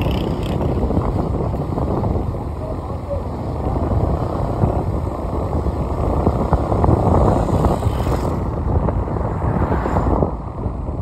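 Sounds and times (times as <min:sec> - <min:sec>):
road and tyre noise: 0:00.0 - 0:11.0.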